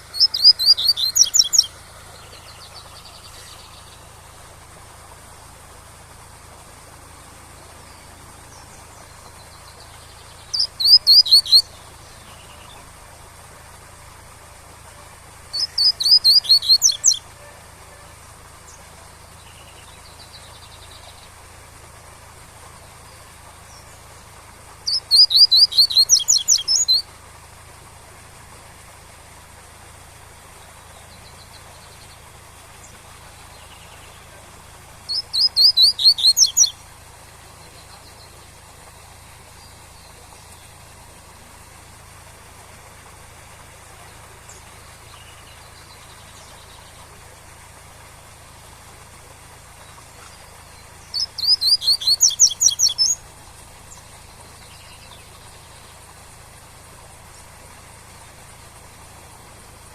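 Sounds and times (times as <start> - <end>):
distant waterfall rush: 0.0 - 59.9.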